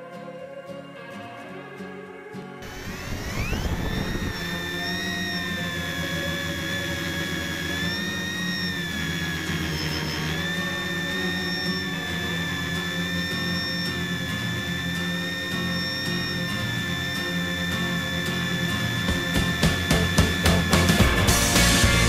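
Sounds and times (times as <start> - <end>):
drone propellers whining: 2.6 - 22.0.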